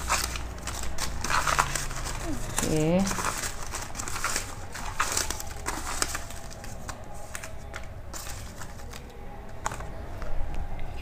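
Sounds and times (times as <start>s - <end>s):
paper slips rustling: 0.0s - 9.9s.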